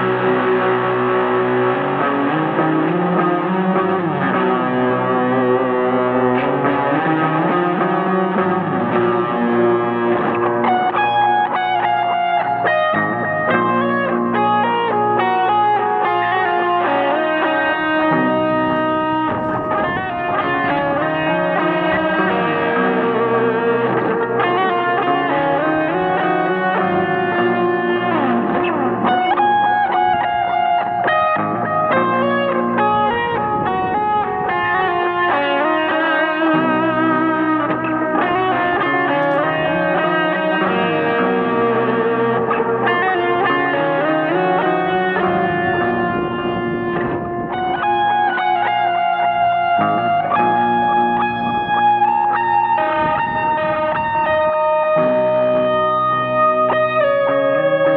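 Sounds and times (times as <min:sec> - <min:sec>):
electric guitar with effects: 0:00.0 - 0:57.9.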